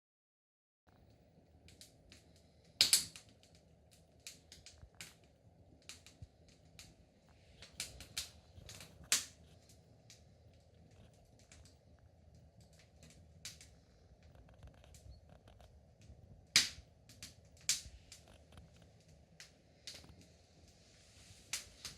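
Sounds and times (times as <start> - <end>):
wood fire crackling and popping: 0.9 - 21.9.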